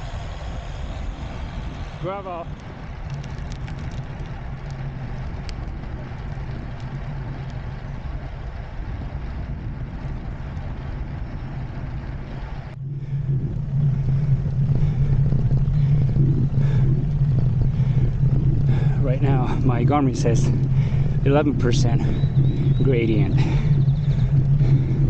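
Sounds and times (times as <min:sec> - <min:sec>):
bicycle road noise: 0:00.0 - 0:25.0
wind buffeting microphone: 0:00.0 - 0:25.0.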